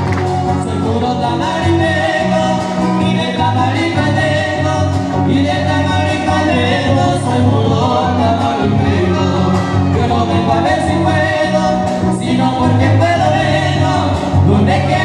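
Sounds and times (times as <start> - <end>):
huapango music with singing: 0.0 - 15.0.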